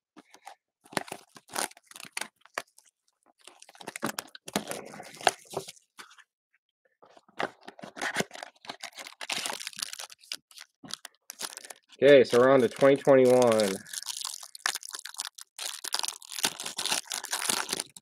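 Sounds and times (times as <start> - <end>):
foil wrapper tearing and crinkling: 0.8 - 5.8, 8.0 - 18.0.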